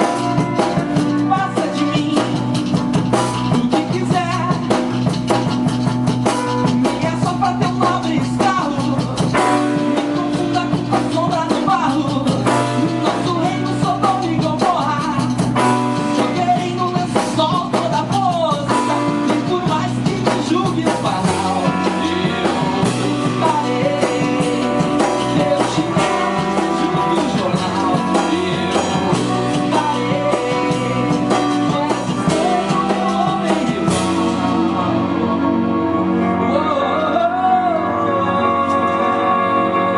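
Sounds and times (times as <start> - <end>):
band playing jazzy rock song: 0.0 - 39.9.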